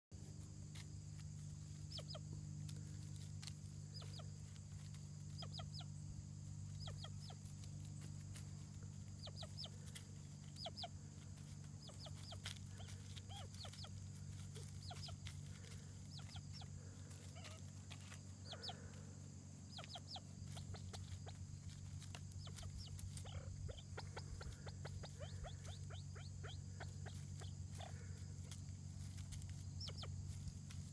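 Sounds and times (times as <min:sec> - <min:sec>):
steady low hum: 0:00.1 - 0:30.9
grouse clucking calls: 0:01.7 - 0:30.9.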